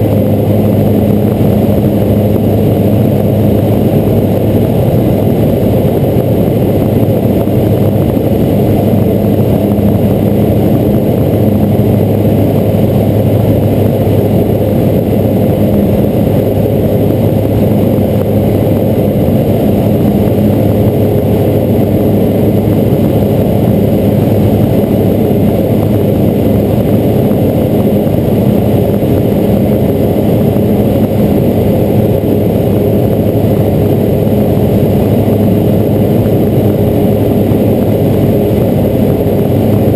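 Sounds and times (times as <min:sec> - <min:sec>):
aircraft engine droning in cockpit: 0:00.0 - 0:39.9.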